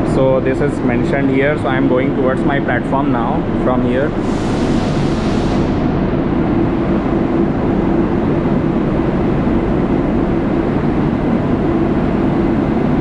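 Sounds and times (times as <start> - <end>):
mechanical rumble with low hum: 0.0 - 13.0.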